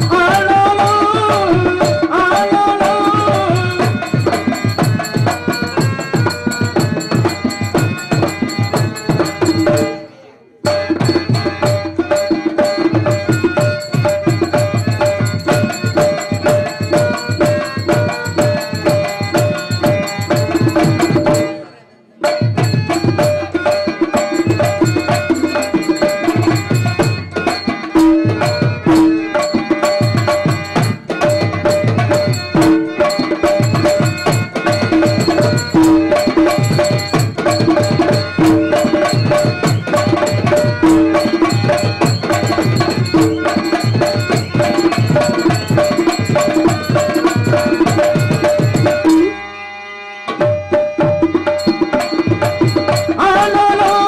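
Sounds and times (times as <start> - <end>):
hand drums beating fast rhythm: 0.0 - 49.4, 50.3 - 54.0
harmonium held notes: 0.0 - 54.0.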